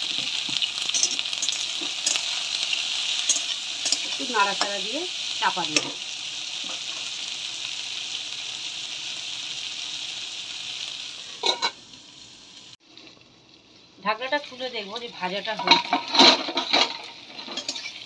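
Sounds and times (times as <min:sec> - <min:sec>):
okra and onion sizzling in oil: 0:00.0 - 0:18.0.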